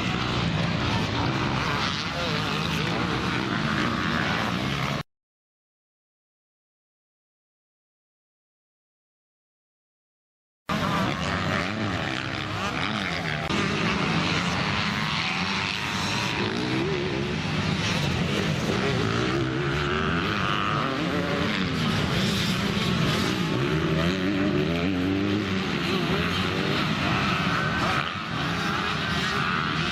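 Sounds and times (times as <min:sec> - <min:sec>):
motocross bike engines racing: 0:00.0 - 0:05.0, 0:10.7 - 0:29.9.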